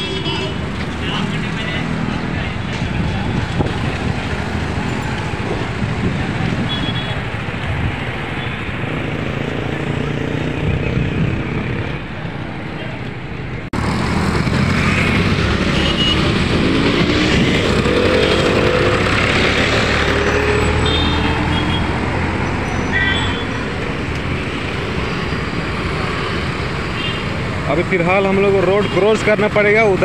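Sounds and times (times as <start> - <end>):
motorcycles and scooters: 0.0 - 30.0
traffic hum: 0.0 - 30.0.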